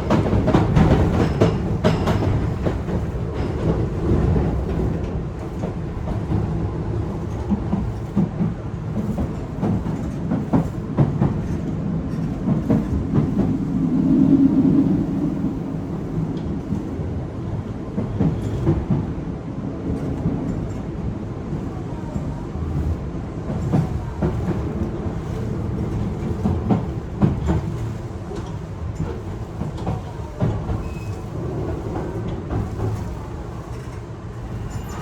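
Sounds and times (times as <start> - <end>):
rail clicks and knocks: 0.0 - 35.0
train wheels rumbling on track: 0.0 - 35.0.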